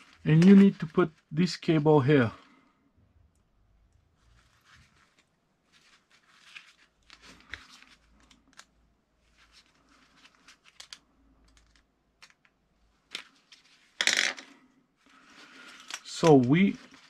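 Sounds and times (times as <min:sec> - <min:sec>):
gloved hands rustling: 0:00.0 - 0:01.8, 0:03.9 - 0:14.0, 0:15.0 - 0:17.0.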